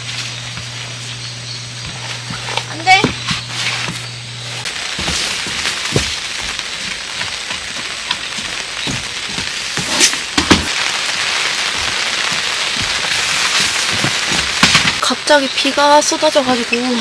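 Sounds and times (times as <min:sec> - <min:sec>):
rain hissing on a tent: 0:00.0 - 0:01.2, 0:04.5 - 0:17.0.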